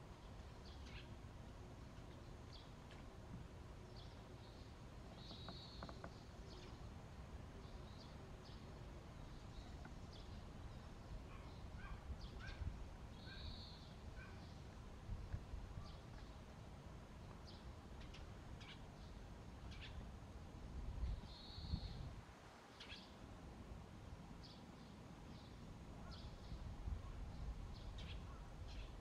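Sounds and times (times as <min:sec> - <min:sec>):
low steady outdoor rumble: 0:00.0 - 0:29.0.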